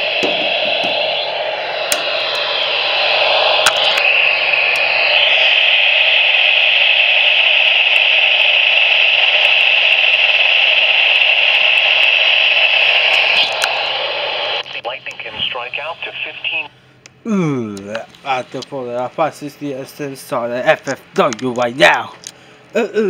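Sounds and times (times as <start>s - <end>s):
radio static hiss: 0.0s - 16.8s, 17.8s - 22.2s.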